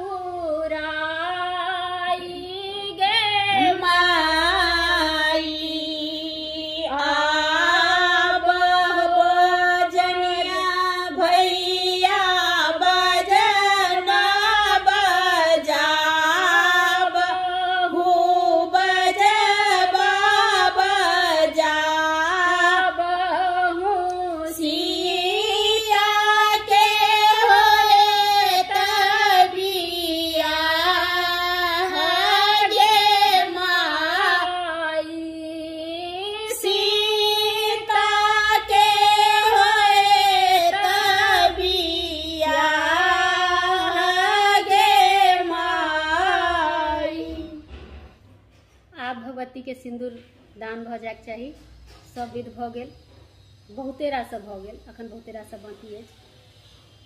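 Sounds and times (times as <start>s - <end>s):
women singing folk song: 0.0s - 47.8s.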